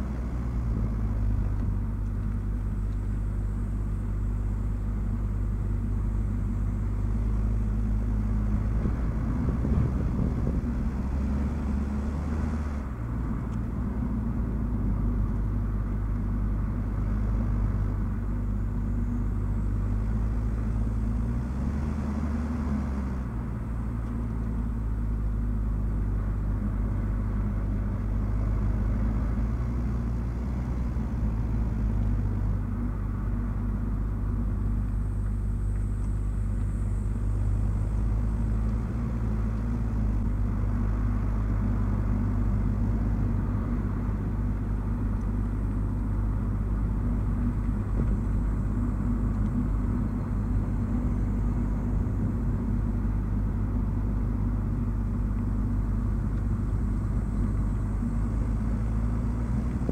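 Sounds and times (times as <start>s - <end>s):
road and drivetrain rumble: 0.0s - 59.9s.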